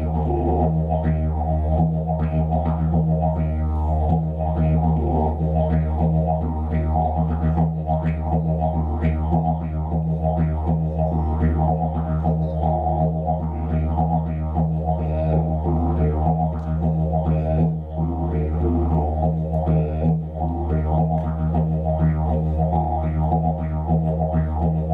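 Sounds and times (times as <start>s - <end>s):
didgeridoo drone: 0.0s - 24.9s.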